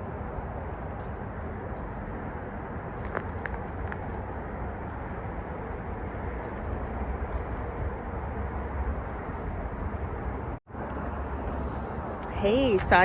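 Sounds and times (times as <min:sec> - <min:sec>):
vehicle and road noise: 0:00.0 - 0:13.0.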